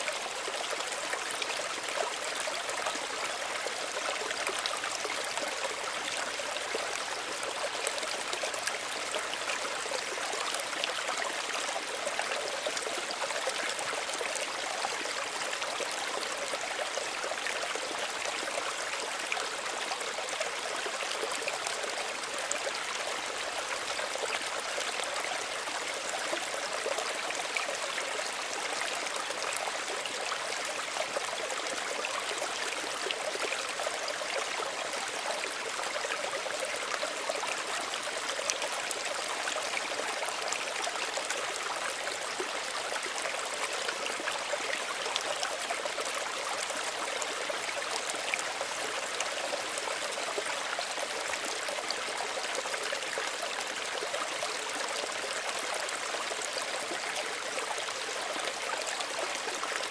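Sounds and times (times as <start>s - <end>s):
small stream trickling: 0.0s - 59.9s.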